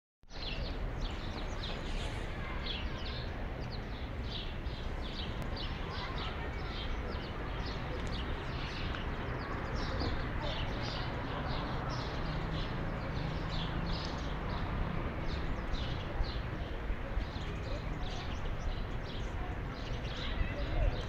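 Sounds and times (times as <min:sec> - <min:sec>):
small birds chirping: 0:00.3 - 0:21.0.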